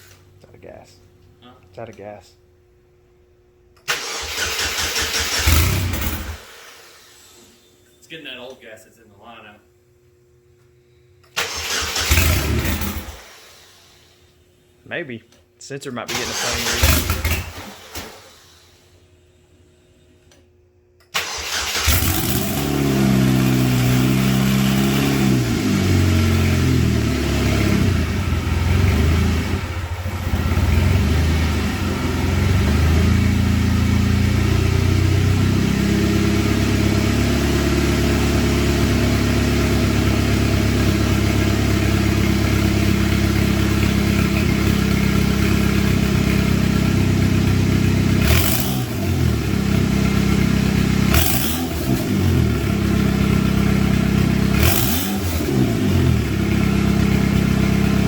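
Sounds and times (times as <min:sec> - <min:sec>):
car engine starting and idling: 0:03.8 - 0:07.8, 0:11.2 - 0:14.6, 0:16.0 - 0:20.4, 0:21.0 - 0:58.0.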